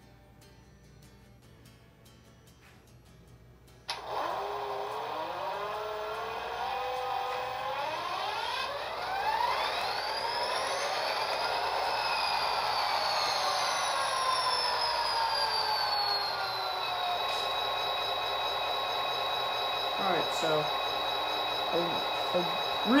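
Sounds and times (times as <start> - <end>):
diesel engine start-up whine: 3.9 - 23.0.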